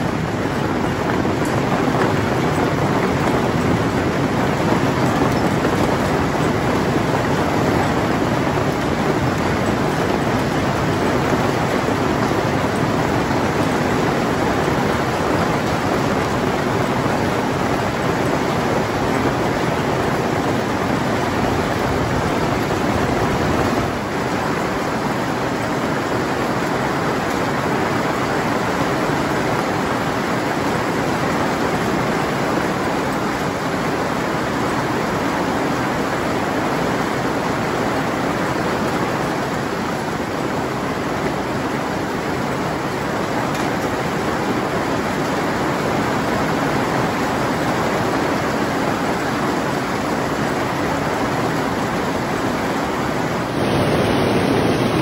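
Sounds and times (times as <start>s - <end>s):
hail and rain falling: 0.0s - 55.0s.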